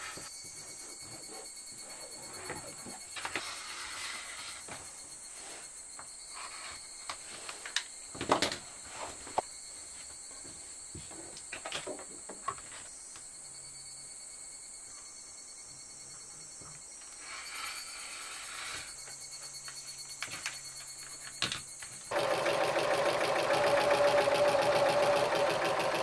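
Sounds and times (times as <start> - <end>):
insects chirring: 0.0 - 22.2.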